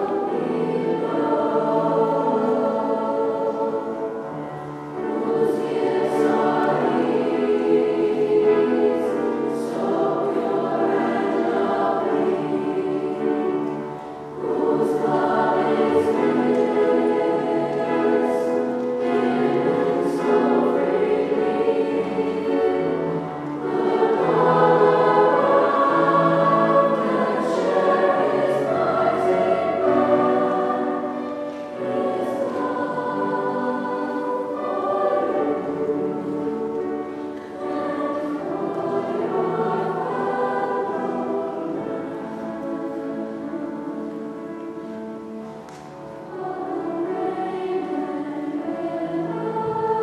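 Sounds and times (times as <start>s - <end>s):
mixed choir singing: 0.0s - 50.0s.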